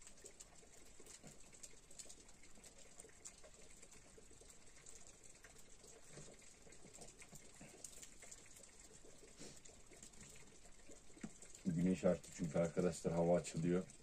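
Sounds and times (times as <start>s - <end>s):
faint light ticks and pattering: 0.0s - 14.0s.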